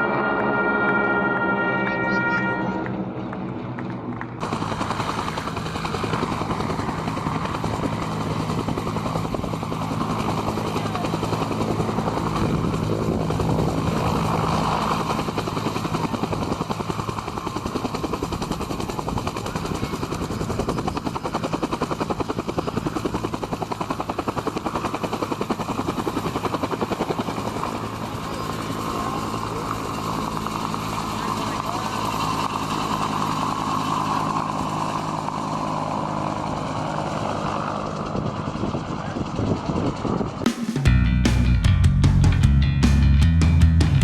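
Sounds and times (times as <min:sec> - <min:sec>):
helicopter engine hum: 0:00.0 - 0:40.9
helicopter rotor chop: 0:01.9 - 0:40.9.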